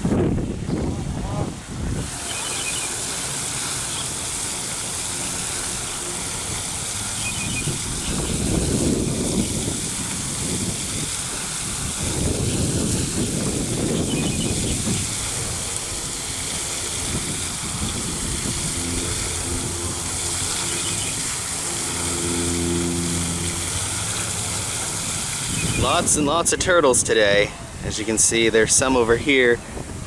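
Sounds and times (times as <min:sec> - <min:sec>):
wind rumble on microphone: 0:00.0 - 0:03.2, 0:05.5 - 0:30.0
low engine hum: 0:00.0 - 0:30.0
steady hiss: 0:01.8 - 0:29.8.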